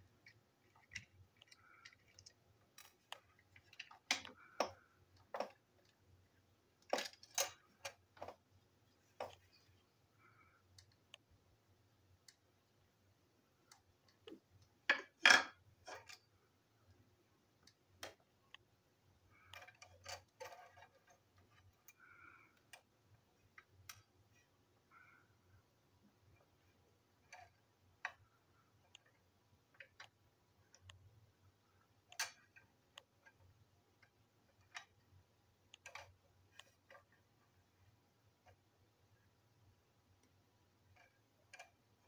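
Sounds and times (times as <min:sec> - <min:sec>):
small toy parts clicking and tapping: 0:00.0 - 0:06.2, 0:06.8 - 0:09.6, 0:13.6 - 0:17.0, 0:17.6 - 0:24.5, 0:26.2 - 0:42.0.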